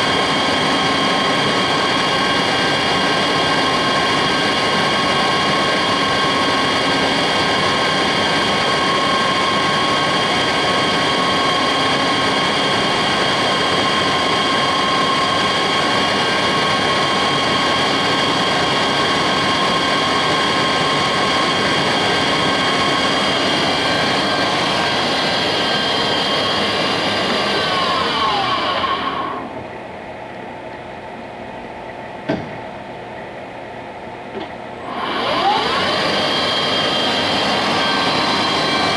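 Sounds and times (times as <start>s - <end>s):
lathe spindle whine: 0.0s - 29.8s, 34.8s - 38.9s
motor and drive noise: 0.1s - 29.8s, 34.3s - 38.9s.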